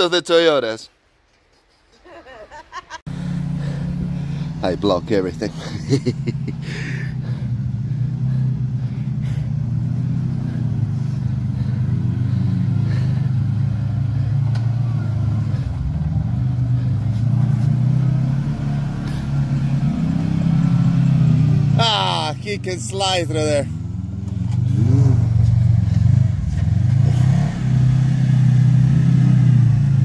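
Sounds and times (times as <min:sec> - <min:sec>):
off-road vehicle engine at low revs: 0:03.1 - 0:30.0.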